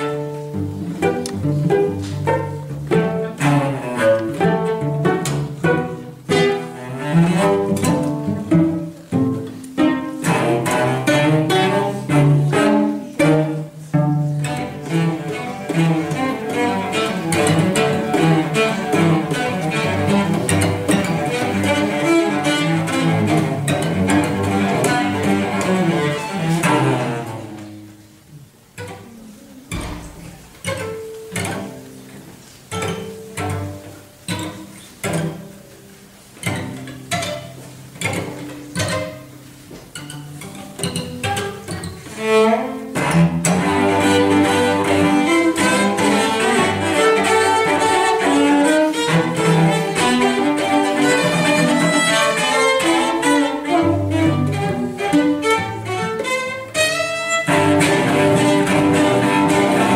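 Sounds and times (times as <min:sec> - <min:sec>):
cellos playing with bows: 0:00.0 - 0:59.9.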